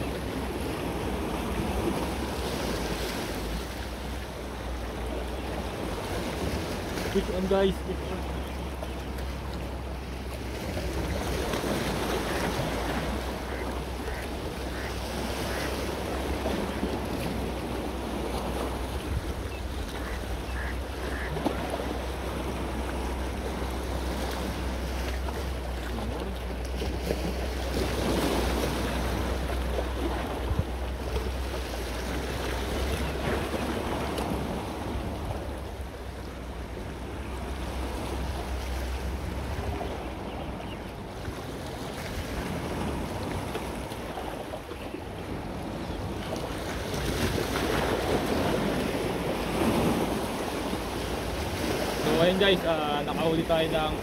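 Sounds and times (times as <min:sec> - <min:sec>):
sea waves washing on shore: 0:00.0 - 0:54.0
wind rumbling on microphone: 0:08.0 - 0:52.4.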